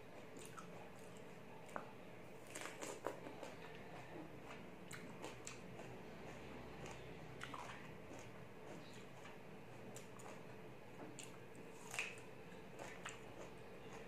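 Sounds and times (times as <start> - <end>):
person chewing crisp vegetable: 0.0 - 14.0.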